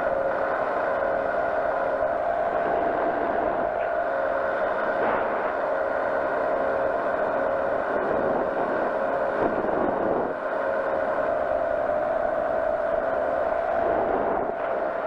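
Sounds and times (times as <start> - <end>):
engine and propeller running: 0.0 - 15.0.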